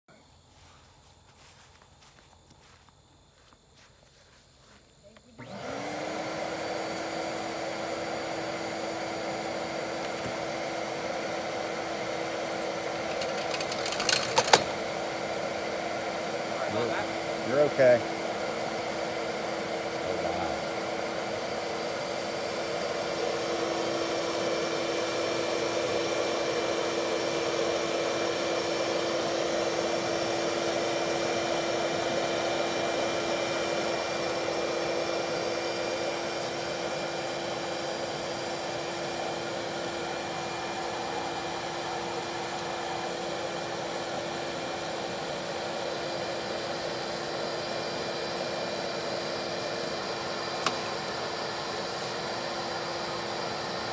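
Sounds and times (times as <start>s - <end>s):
vacuum motor hum: 0.3s - 53.9s.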